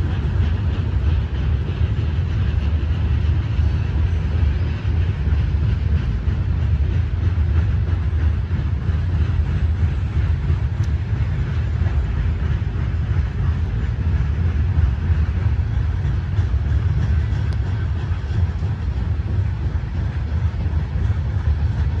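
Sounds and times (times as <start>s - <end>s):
freight train rumbling over bridge: 0.0s - 22.0s.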